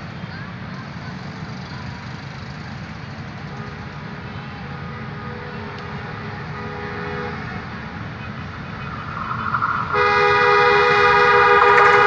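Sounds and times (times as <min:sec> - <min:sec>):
train rumbling on track: 0:00.5 - 0:12.0.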